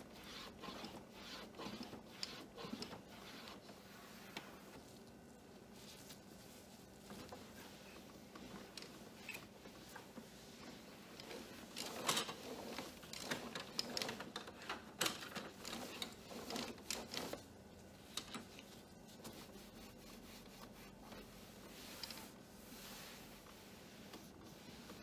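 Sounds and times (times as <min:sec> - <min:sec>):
cloth wiping plastic: 0:00.0 - 0:14.2, 0:15.5 - 0:25.0.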